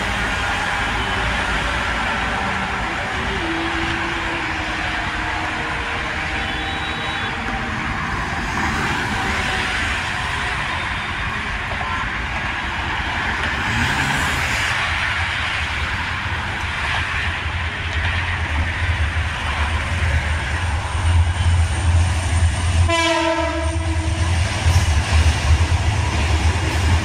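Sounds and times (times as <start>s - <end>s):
traffic passing on expressway: 0.0s - 27.0s.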